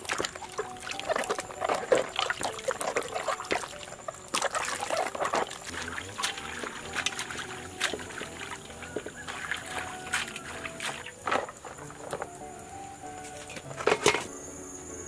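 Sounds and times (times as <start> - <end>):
water splashing in metal basin: 0.0 - 14.3.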